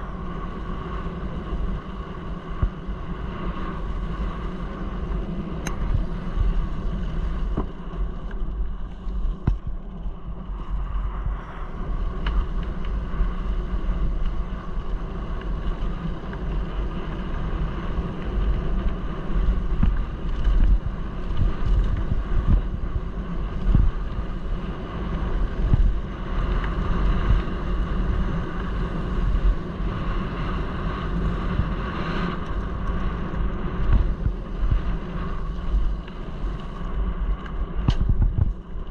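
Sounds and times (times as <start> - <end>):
bike rattling over bumps: 0.0 - 38.9
bike tyres on gravel: 0.0 - 38.9
wind on microphone: 0.0 - 38.9.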